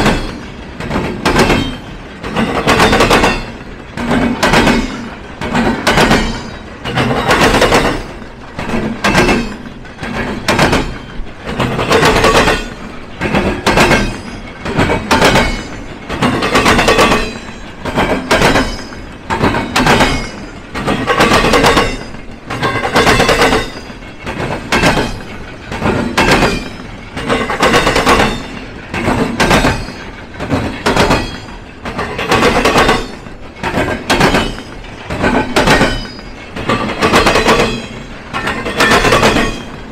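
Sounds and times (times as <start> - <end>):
train wheels banging over crossing: 0.0 - 39.9.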